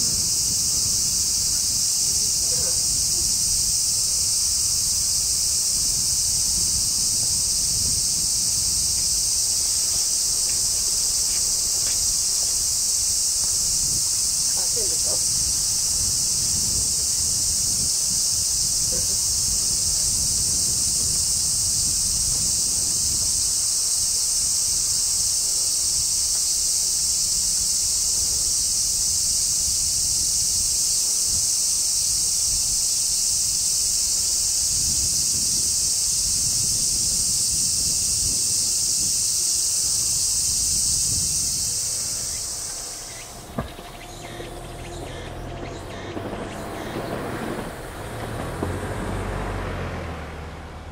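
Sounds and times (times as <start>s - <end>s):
cicadas droning: 0.0s - 50.9s.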